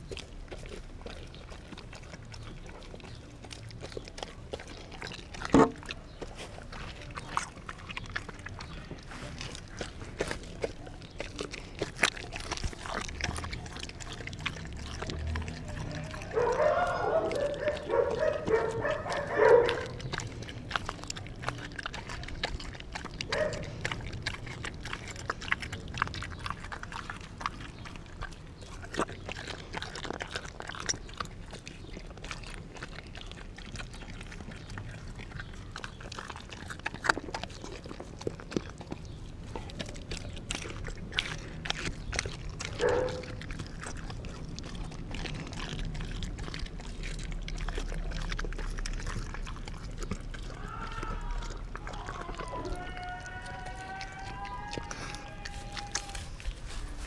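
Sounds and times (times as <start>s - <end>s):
dog making pitched sounds: 0.0s - 56.6s
dog chewing meat: 0.0s - 57.0s.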